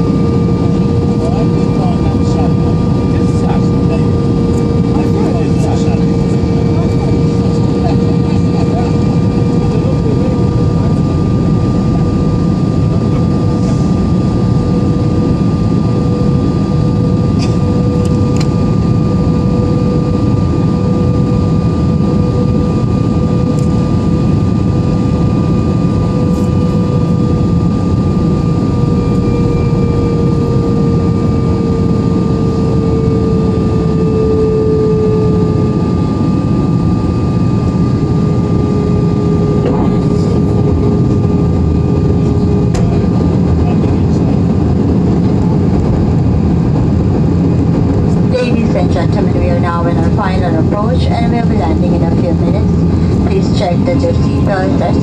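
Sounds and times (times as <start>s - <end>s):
jet engines and airflow rushing: 0.0s - 55.0s
steady cabin hum: 0.0s - 55.0s.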